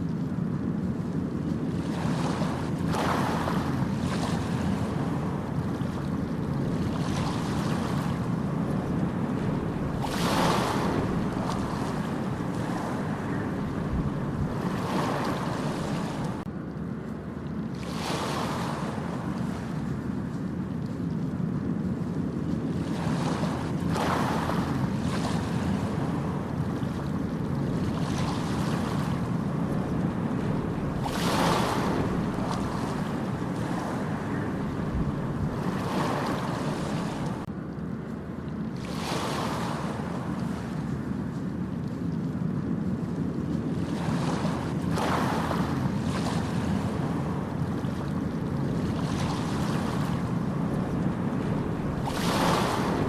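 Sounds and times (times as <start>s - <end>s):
constant low rumble: 0.0s - 53.0s
ocean waves breaking: 0.0s - 53.0s
wind buffeting microphone: 0.0s - 53.0s.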